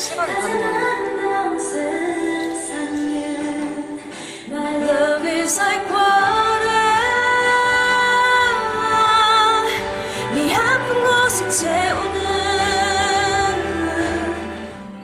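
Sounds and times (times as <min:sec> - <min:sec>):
woman singing a ballad: 0:00.0 - 0:15.0.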